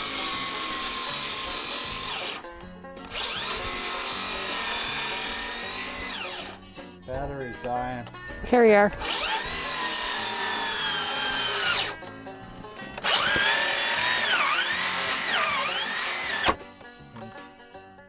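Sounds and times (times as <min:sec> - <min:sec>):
cordless power tool whining: 0:00.0 - 0:06.7, 0:08.9 - 0:16.8.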